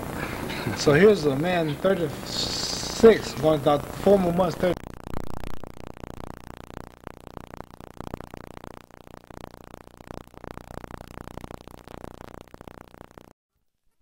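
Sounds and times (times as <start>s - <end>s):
steady electrical hum: 0.0s - 13.3s
scratchy crackling noise: 0.0s - 13.4s.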